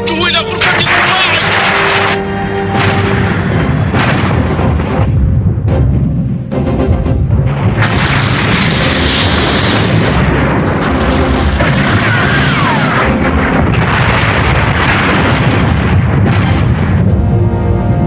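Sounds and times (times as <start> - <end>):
dramatic background music: 0.0 - 18.0
explosions with deep rumble: 0.7 - 18.0
cannon blasts: 0.8 - 5.6, 7.4 - 17.3.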